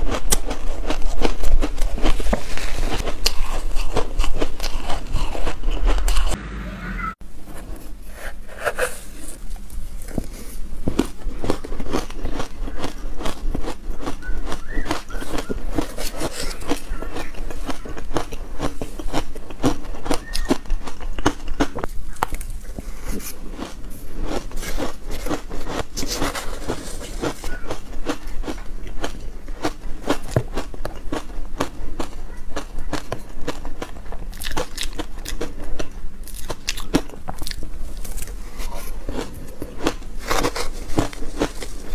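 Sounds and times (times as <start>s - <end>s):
ice crunching when chewed: 0.0s - 6.4s, 8.1s - 41.9s.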